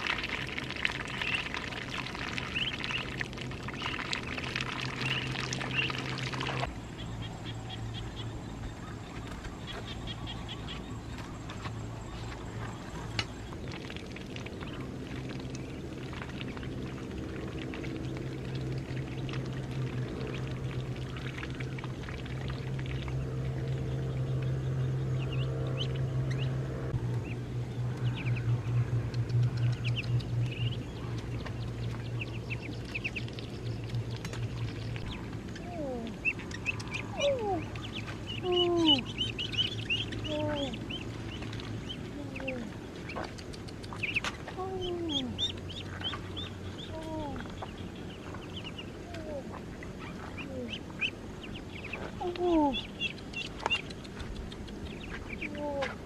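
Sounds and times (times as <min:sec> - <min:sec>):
ducklings peeping: 0:00.0 - 0:56.0
steady low hum: 0:00.0 - 0:56.0.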